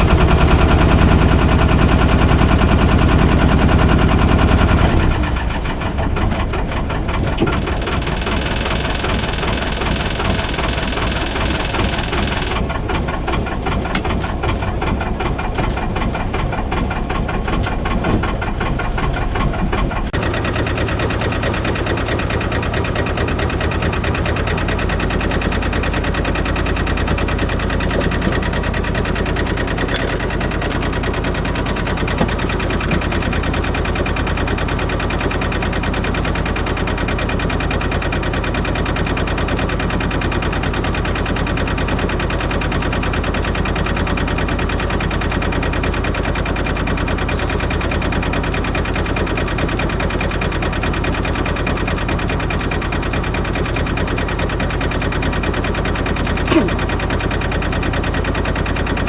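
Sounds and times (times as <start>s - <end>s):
boat engine knocking: 0.0s - 59.0s.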